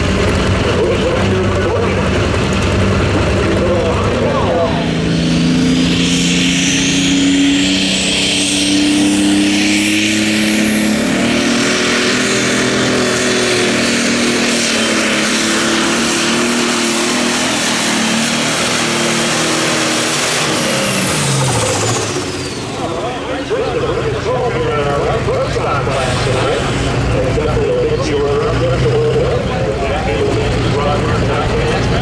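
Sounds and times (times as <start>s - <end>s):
diesel engine running under load: 0.0s - 32.0s
high turbo whine: 0.0s - 32.0s.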